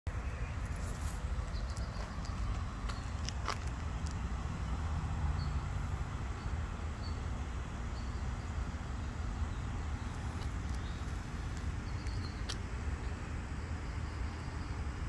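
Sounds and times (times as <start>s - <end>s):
low outdoor rumble: 0.1s - 15.0s.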